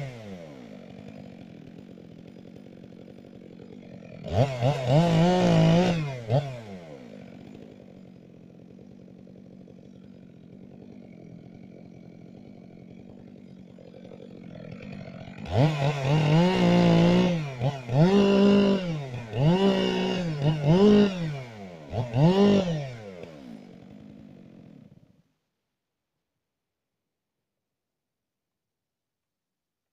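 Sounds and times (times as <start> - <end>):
chainsaw revving and idling: 0.0 - 25.3.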